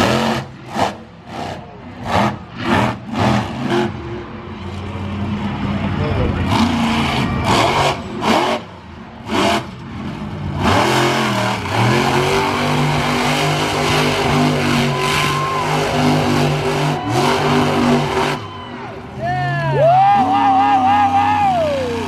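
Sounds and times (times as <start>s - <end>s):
large vehicle engine revving: 0.0s - 22.0s
loud engine blasts: 0.0s - 22.0s.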